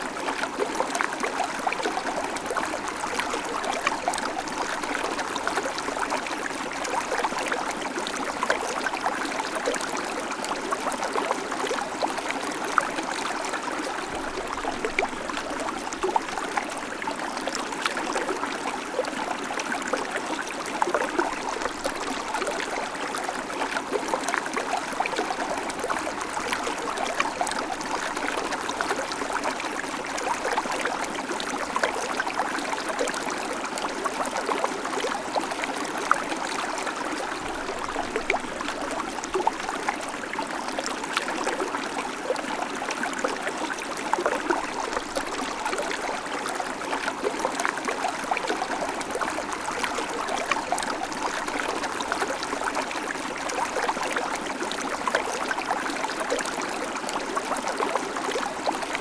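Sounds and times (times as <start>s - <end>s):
creek water running over stones: 0.0s - 59.0s.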